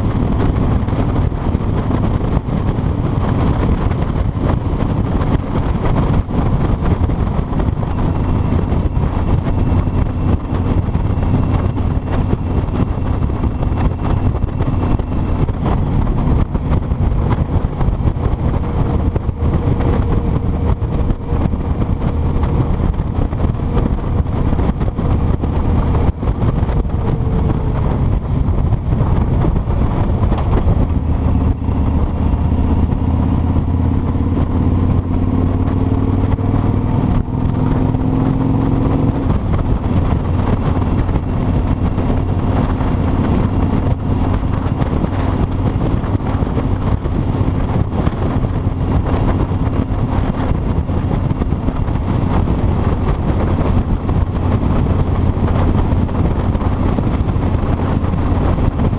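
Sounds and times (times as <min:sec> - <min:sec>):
motorcycle engine running: 0:00.0 - 0:58.9
wind rushing over microphone: 0:00.0 - 0:58.9.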